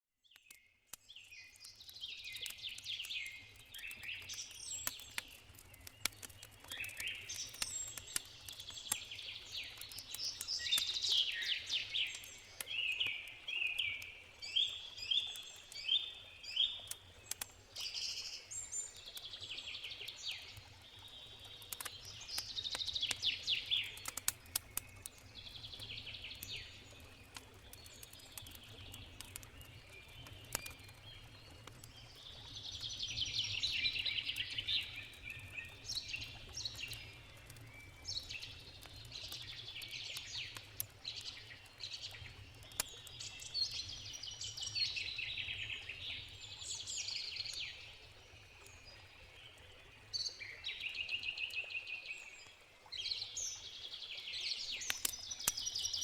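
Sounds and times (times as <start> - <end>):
campfire crackles: 0.2 - 56.0
birds singing: 0.4 - 56.0.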